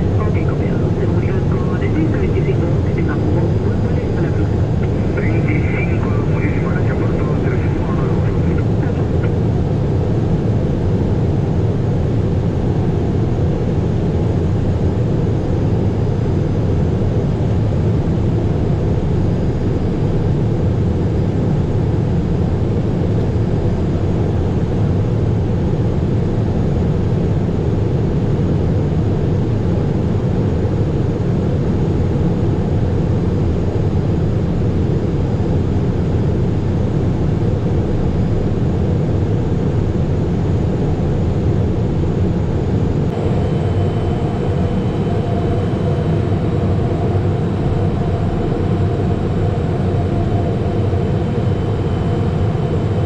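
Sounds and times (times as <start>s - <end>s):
jet engine and airflow rush: 0.0s - 53.0s.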